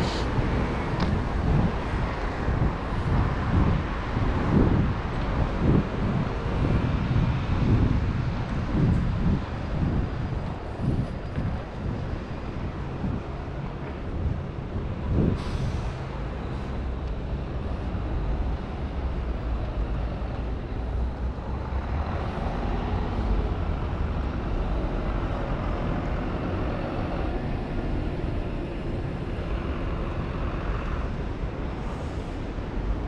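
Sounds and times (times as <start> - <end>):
city street traffic: 0.0 - 33.0
heavy vehicle engine running: 0.0 - 33.0.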